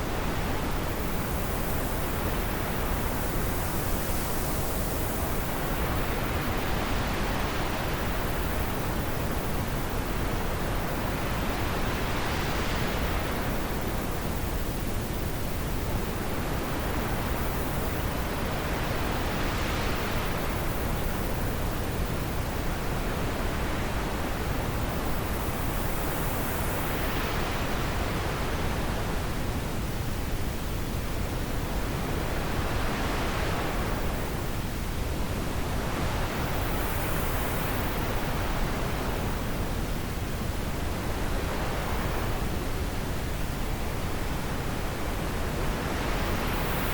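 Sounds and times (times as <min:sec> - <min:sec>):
wind blowing in gusts: 0:00.0 - 0:46.9.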